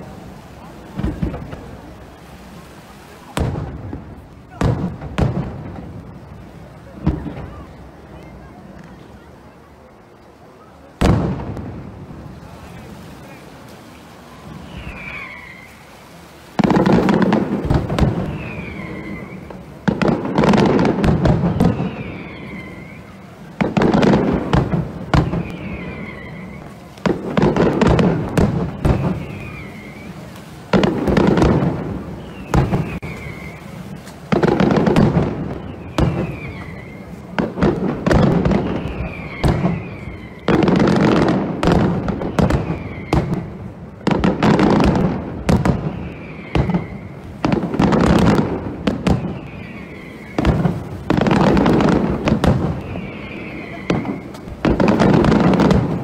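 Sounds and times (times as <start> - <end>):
fireworks crackling: 0.0 - 56.0
falling firework whistles: 11.0 - 56.0.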